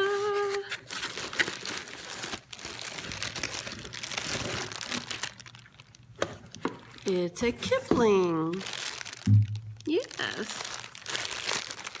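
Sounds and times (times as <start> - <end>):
nylon bag crinkling and rustling: 0.0 - 12.0.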